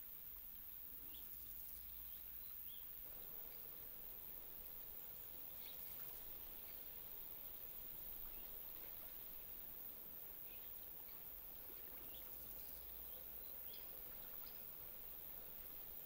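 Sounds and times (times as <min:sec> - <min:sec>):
faint outdoor background noise: 0:00.0 - 0:16.0
birds chirping: 0:01.0 - 0:16.0.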